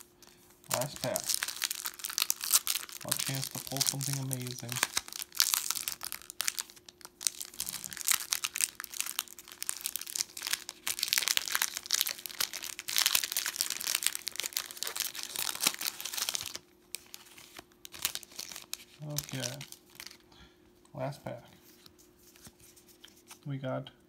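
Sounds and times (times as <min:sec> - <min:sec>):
foil wrapper crinkling: 0:00.6 - 0:20.2.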